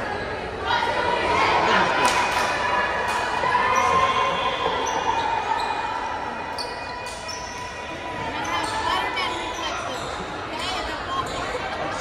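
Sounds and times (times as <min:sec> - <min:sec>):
background hubbub: 0:00.0 - 0:12.0.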